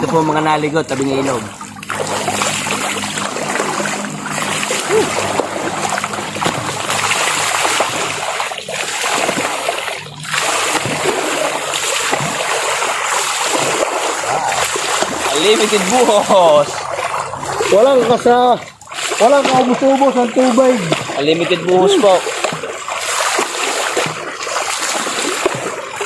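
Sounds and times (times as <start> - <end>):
running water splashing: 0.0 - 26.0.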